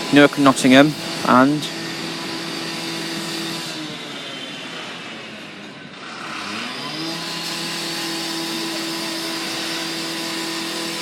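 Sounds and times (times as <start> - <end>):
diesel train engine drone: 0.0 - 11.0.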